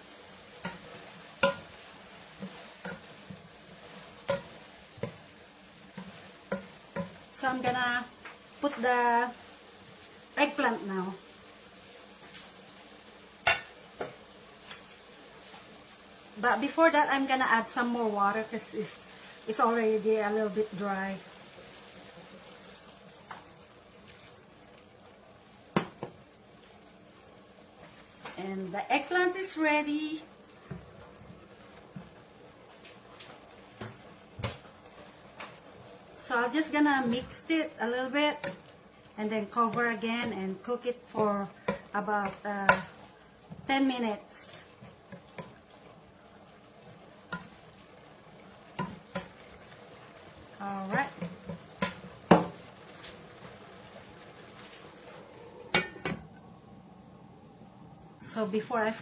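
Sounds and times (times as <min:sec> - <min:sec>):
pot hissing: 0:00.0 - 0:59.0.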